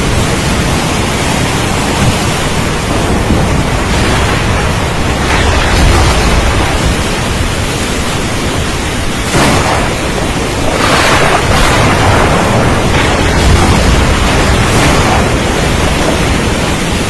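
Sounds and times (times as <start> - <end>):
heavy rain hissing: 0.0 - 17.0
low thunder rumble: 0.0 - 17.0.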